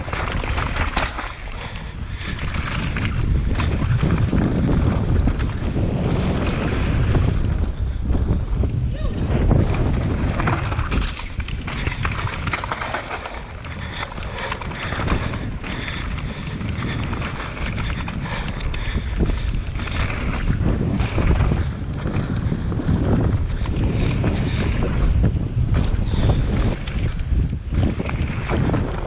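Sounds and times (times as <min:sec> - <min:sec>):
tyre rumble over dirt: 0:00.0 - 0:01.7, 0:02.3 - 0:29.0
bike rattles and clacks: 0:00.0 - 0:29.0
wind buffeting microphone: 0:00.0 - 0:29.0.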